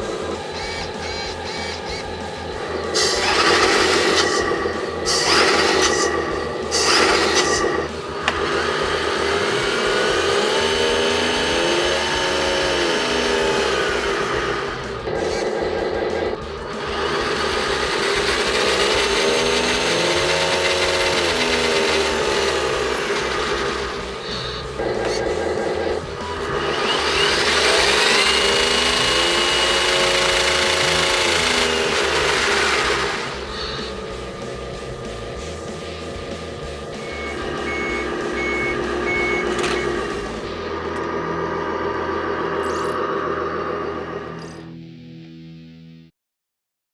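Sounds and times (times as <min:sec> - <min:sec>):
toy truck motor whirring: 0:00.0 - 0:34.2, 0:37.0 - 0:44.6.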